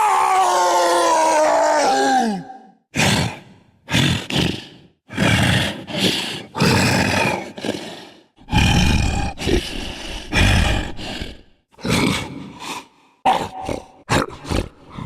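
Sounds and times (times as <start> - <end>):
loud creature roars: 0.0 - 12.3.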